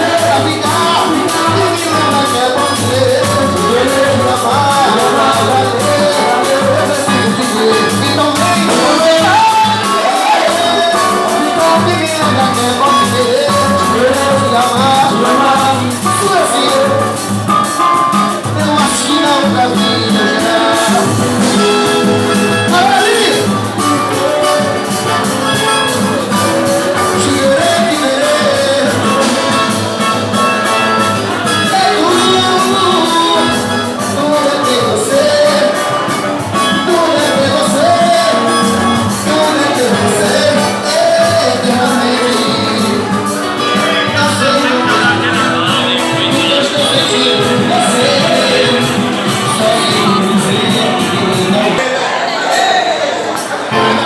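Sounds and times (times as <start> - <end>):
live latin band music: 0.0 - 54.0.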